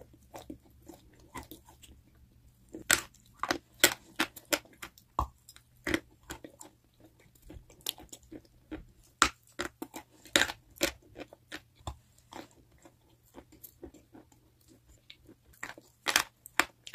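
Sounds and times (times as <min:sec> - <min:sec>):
chewing crunchy chalk: 0:00.1 - 0:02.0, 0:02.7 - 0:16.9.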